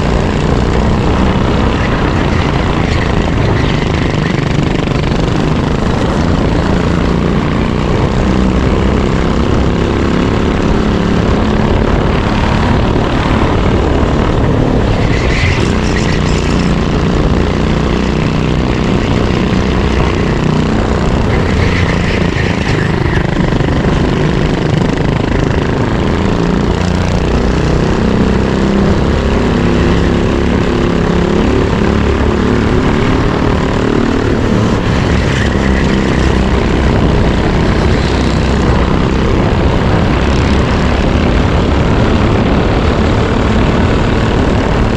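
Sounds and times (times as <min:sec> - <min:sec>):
kart engine revving: 0:00.0 - 0:44.9
wind noise: 0:00.0 - 0:44.9.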